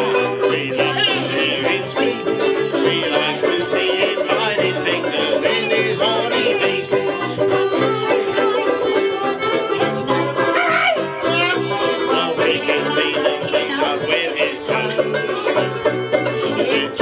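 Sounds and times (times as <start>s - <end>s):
folk band playing: 0.0s - 17.0s.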